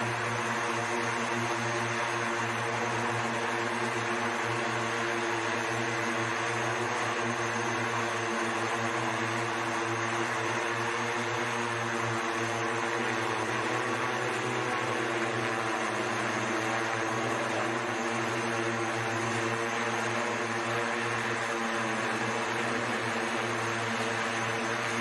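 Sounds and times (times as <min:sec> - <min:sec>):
electric propellers humming: 0:00.0 - 0:25.0.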